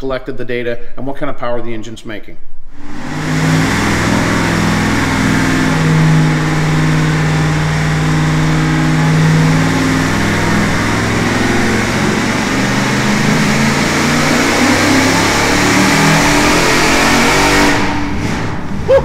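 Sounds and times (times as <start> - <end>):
engine revving under load: 2.7 - 19.0.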